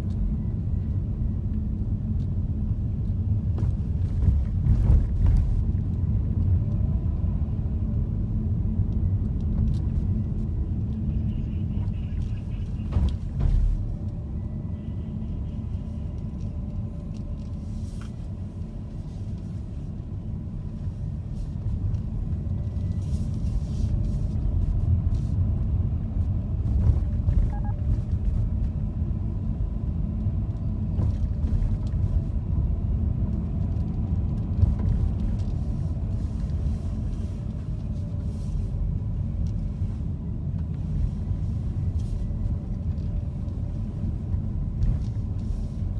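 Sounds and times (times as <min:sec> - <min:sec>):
engine and tyre rumble: 0:00.0 - 0:45.9.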